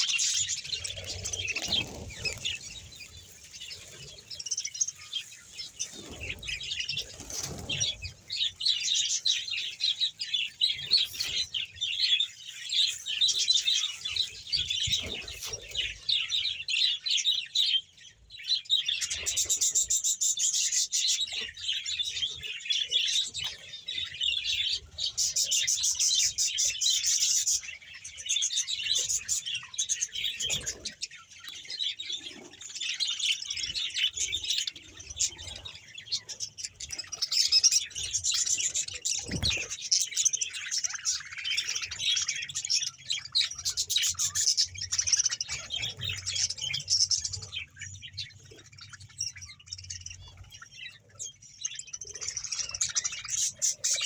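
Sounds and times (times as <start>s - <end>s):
budgerigars chattering: 0.0s - 17.8s, 18.7s - 54.0s.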